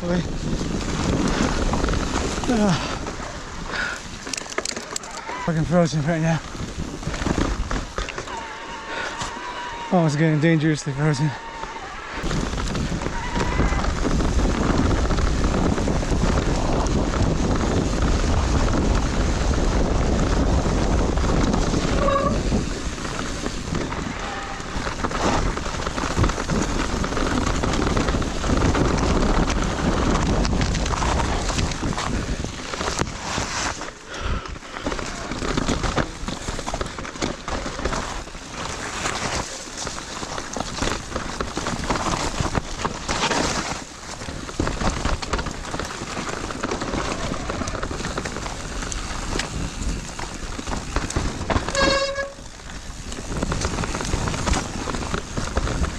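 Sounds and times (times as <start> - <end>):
wind buffeting microphone: 0.0 - 4.6, 5.4 - 11.4, 12.1 - 55.9.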